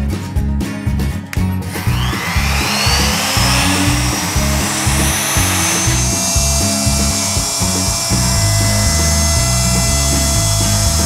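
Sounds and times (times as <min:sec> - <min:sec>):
router motor whining: 0:01.7 - 0:11.0.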